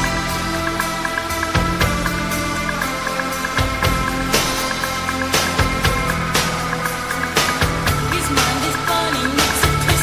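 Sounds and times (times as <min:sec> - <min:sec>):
drum beat: 0:00.0 - 0:10.0
pop-rock song: 0:00.0 - 0:10.0.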